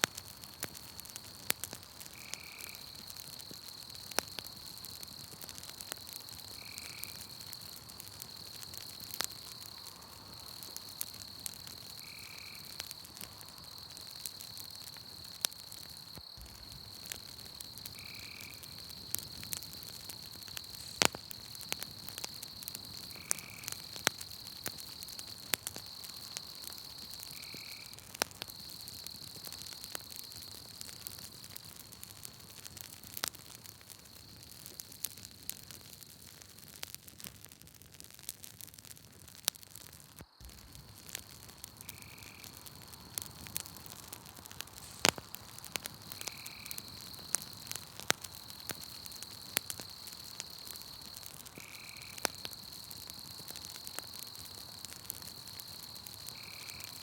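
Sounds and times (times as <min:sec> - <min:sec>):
campfire crackling and popping: 0:00.0 - 0:57.0
insect trill: 0:00.4 - 0:36.4, 0:40.0 - 0:57.0.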